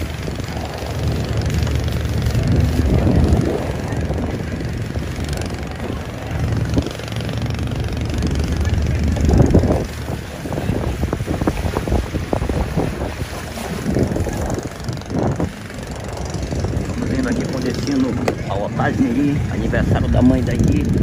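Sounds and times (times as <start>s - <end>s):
boat engine rumble: 0.0s - 21.0s
rushing water: 0.0s - 21.0s
wind buffeting microphone: 0.0s - 21.0s.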